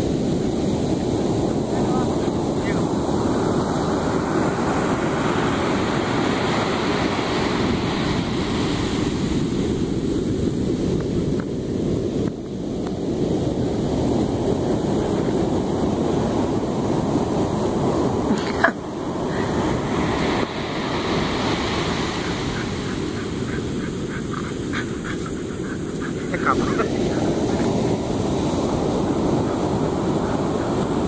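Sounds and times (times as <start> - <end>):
ocean surf breaking on beach: 0.0 - 31.0
wind buffeting microphone: 0.0 - 31.0.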